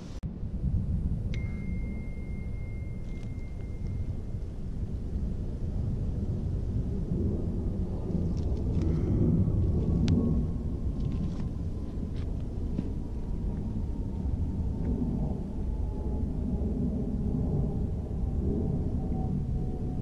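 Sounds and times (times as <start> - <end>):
faint distant whine: 0.0 - 20.0
wind buffeting microphone: 0.0 - 20.0.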